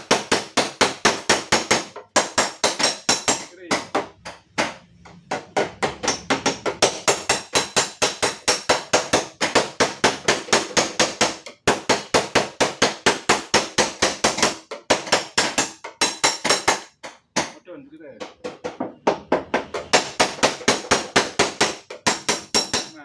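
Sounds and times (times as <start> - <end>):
hammer striking metal: 0.0 - 17.6, 18.2 - 23.0.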